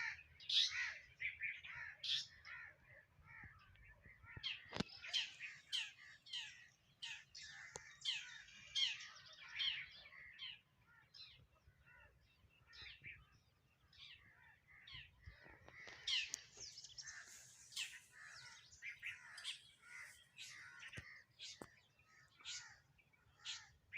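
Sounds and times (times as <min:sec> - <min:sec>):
sparrows chirping: 0:00.0 - 0:23.9.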